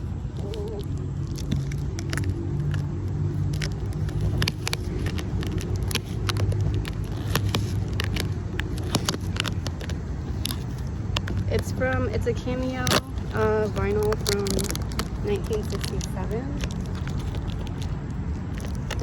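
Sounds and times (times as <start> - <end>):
packaging crinkling and clicking: 0.0 - 19.0
steady low hum: 0.0 - 19.0.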